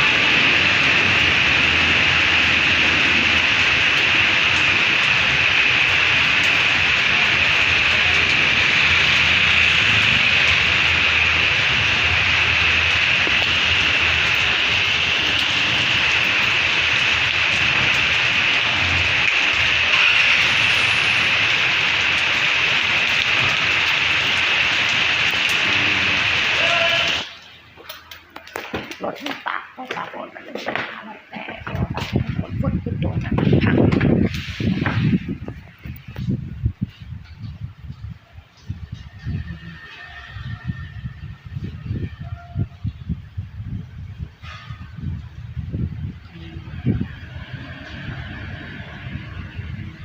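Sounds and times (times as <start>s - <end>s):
heavy rain: 0.0s - 50.0s.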